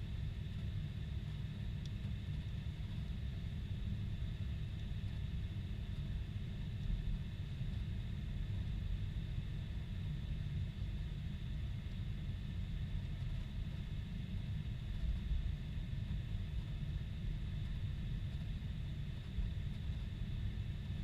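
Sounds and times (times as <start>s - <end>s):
airliner engine rumble: 0.0s - 21.0s.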